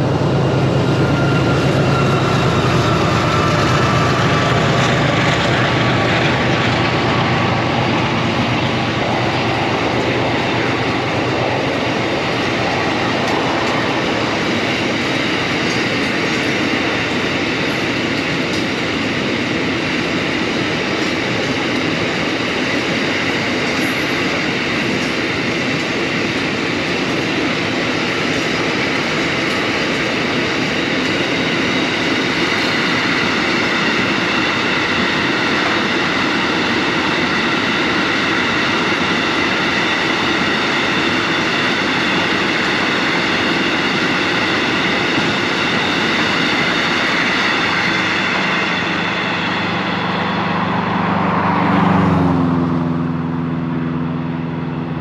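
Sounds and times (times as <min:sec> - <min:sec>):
freight train rumbling and rattling: 0:00.0 - 0:55.0.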